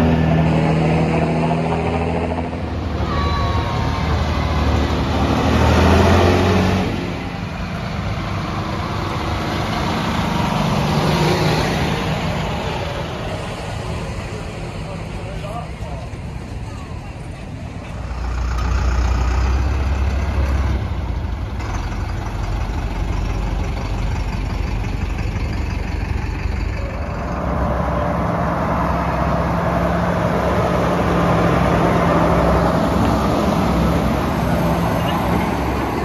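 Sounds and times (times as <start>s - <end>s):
heavy engines idling: 0.0s - 36.0s
higher engine hum: 0.0s - 36.0s.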